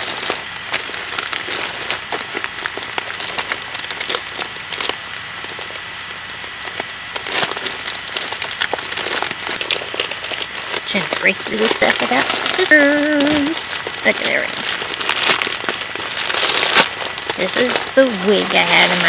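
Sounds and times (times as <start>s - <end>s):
packaging crinkling and tearing: 0.0s - 19.0s.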